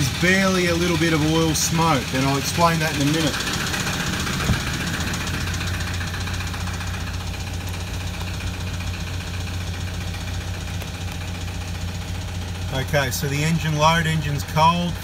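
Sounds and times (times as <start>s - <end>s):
diesel engine idling with knock: 0.0s - 15.0s.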